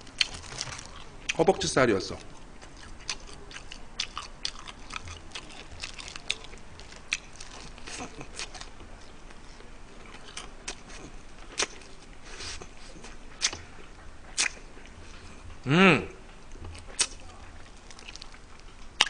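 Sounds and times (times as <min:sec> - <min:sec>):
chewing with mouth smacks: 0:02.2 - 0:15.6, 0:16.2 - 0:19.0.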